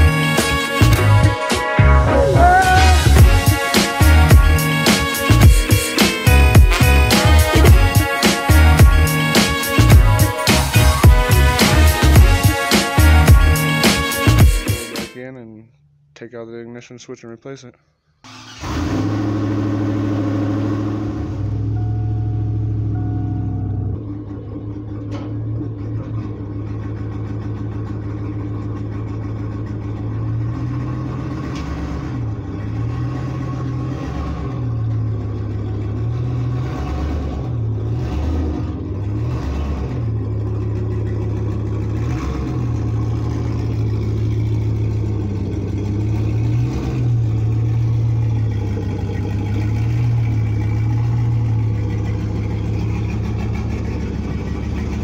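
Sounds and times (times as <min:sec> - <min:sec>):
vehicle engine running: 0:00.0 - 0:14.9, 0:18.3 - 0:55.0.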